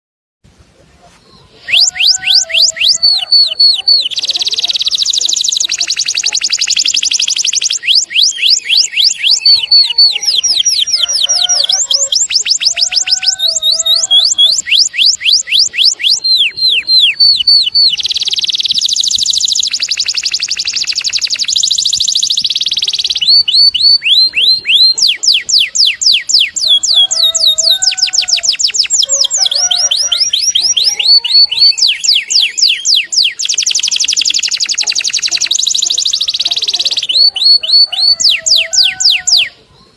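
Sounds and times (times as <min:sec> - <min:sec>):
songbird whistling song: 0:01.3 - 0:39.9
fast bird trills: 0:01.6 - 0:39.6.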